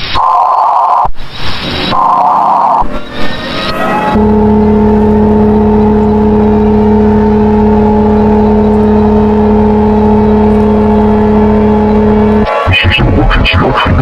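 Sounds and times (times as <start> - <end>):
steady electronic alert tone: 1.8 - 13.5.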